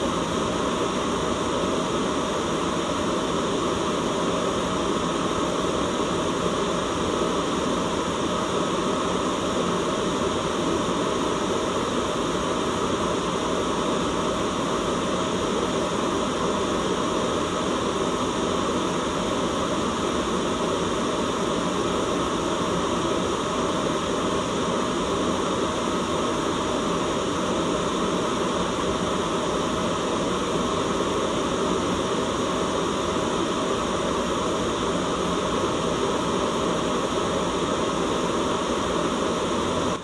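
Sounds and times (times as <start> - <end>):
white noise hiss: 0.0 - 40.0.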